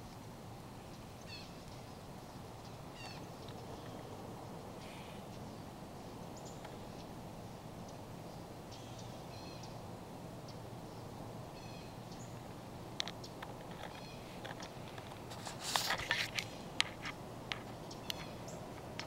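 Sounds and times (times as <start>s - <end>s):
faint steady hiss: 0.0s - 19.0s
birds calling: 0.7s - 19.0s.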